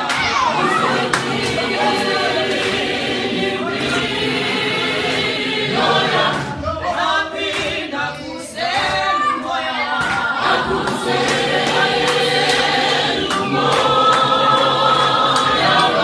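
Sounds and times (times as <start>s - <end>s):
choir singing unaccompanied: 0.0s - 16.0s.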